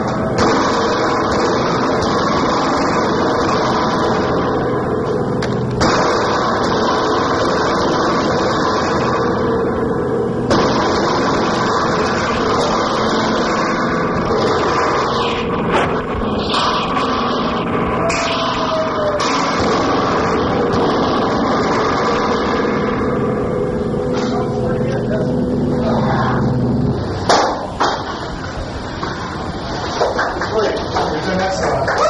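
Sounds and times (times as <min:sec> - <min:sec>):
distorted electronic noise music: 0:00.0 - 0:32.0.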